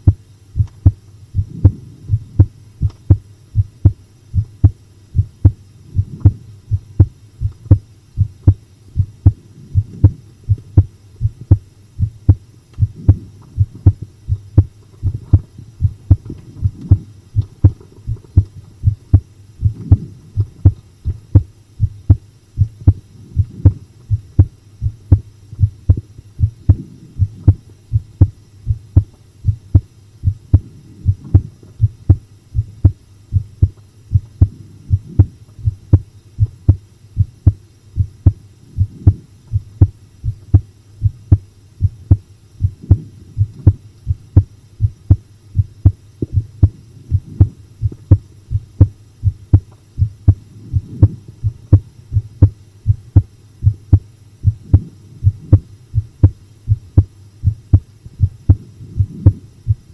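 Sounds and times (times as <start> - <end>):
faint steady hum: 0.0 - 59.9
heartbeat thumps: 0.0 - 59.9.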